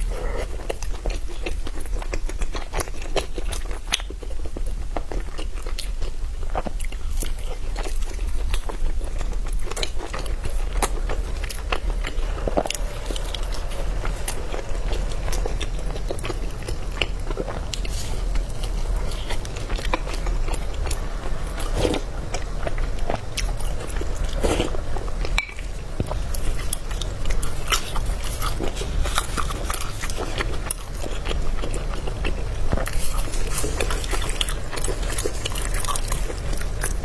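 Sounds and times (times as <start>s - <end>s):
person chewing and biting: 0.0s - 37.0s.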